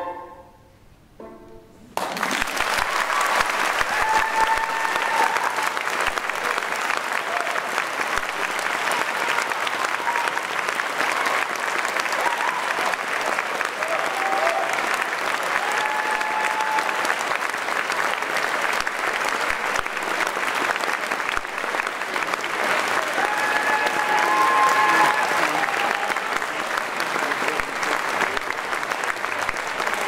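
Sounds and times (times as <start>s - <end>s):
audience applauding: 1.9s - 30.0s.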